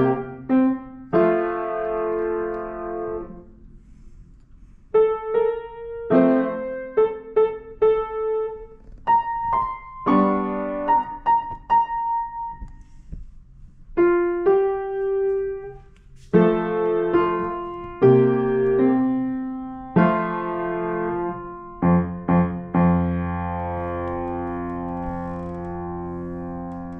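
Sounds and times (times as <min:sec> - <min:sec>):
piano playing: 0:00.0 - 0:03.5, 0:04.9 - 0:12.7, 0:14.0 - 0:26.9.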